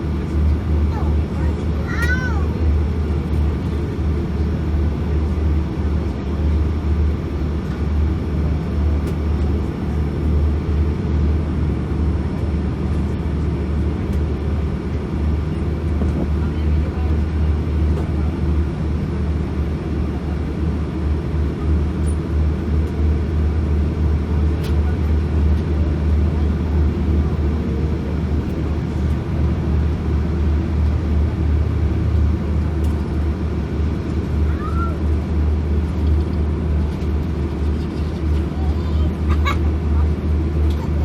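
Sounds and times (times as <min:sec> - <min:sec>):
aircraft cabin rumble: 0:00.0 - 0:41.0.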